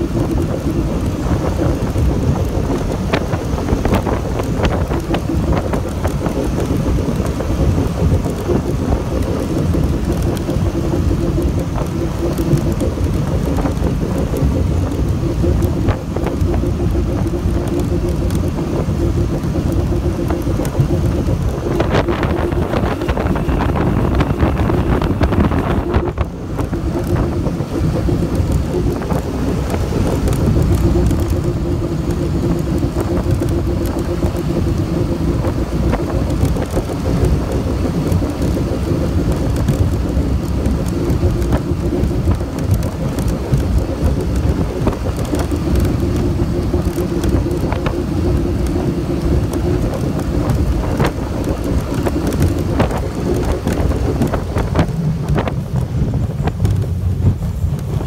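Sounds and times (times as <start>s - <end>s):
outboard motor drone: 0.0s - 58.0s
rushing water: 0.0s - 58.0s
wind on the microphone: 0.0s - 58.0s.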